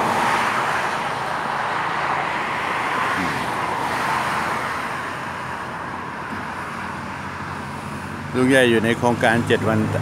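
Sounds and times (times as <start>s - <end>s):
traffic passing: 0.0s - 10.0s.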